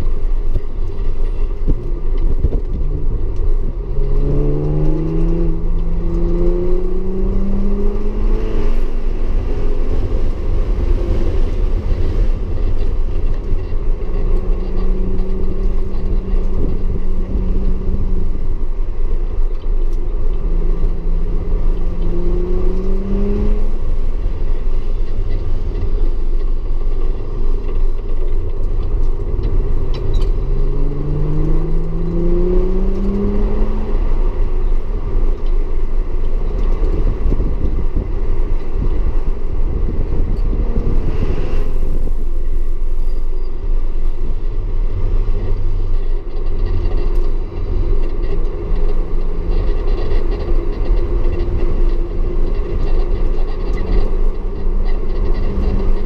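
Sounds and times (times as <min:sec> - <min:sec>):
car engine accelerating: 0:00.0 - 0:56.0
heavy low rumble: 0:00.0 - 0:56.0.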